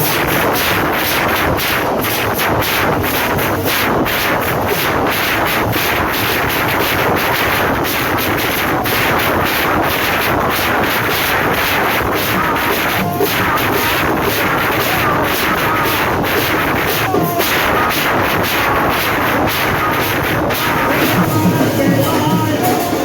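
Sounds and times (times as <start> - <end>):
procession drumming: 0.0 - 23.0.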